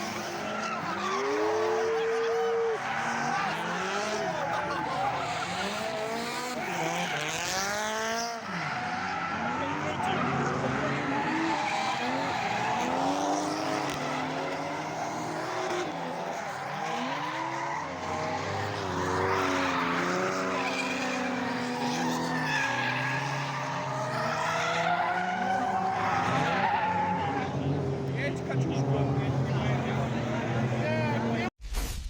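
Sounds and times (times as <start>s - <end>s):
car engines revving: 0.0s - 31.5s
tyres skidding and squealing: 0.0s - 31.5s.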